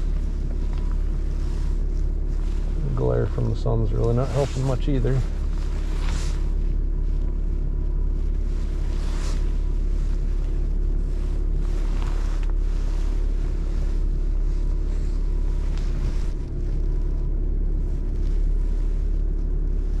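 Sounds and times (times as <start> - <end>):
truck engine low rumble: 0.0 - 20.0.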